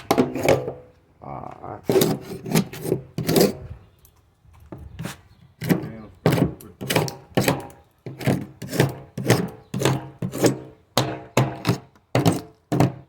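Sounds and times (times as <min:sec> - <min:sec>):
paint scraper scraping: 0:00.0 - 0:00.8, 0:01.8 - 0:03.8, 0:04.8 - 0:13.0.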